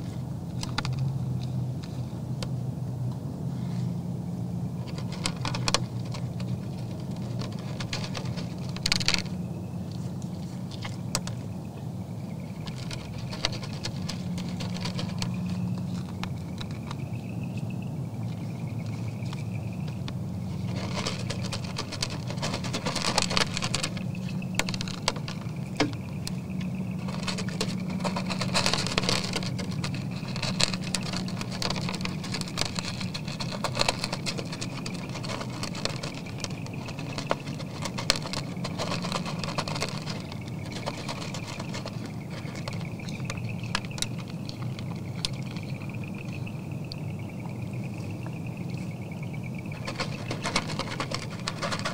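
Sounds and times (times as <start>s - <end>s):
deer crunching feed: 0.0s - 2.2s, 4.6s - 51.9s.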